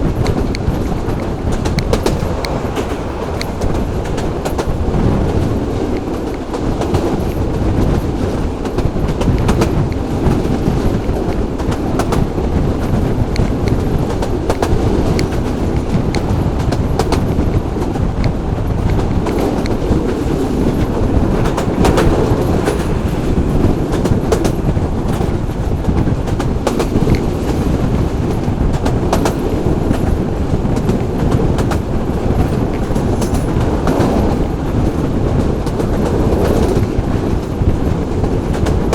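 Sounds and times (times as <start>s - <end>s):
train rumbling: 0.0s - 38.9s
wheels clicking over rails: 0.0s - 38.9s.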